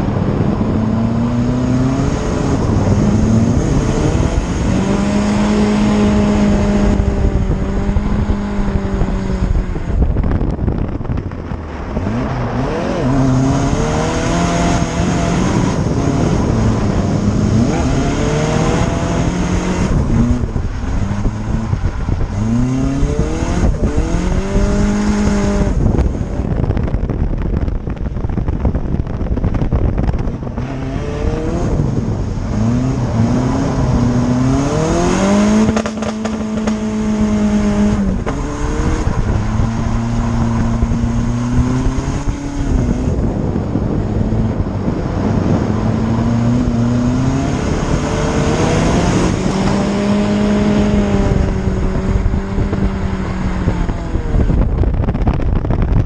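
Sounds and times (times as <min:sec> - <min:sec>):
car engine revving: 0:00.0 - 0:56.0
wind noise: 0:00.0 - 0:56.0.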